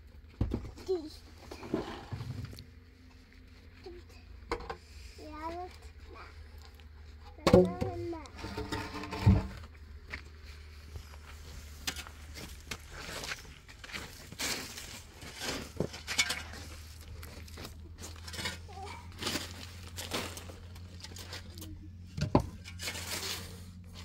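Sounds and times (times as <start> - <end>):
rustling and crinkling: 0.1 - 24.0.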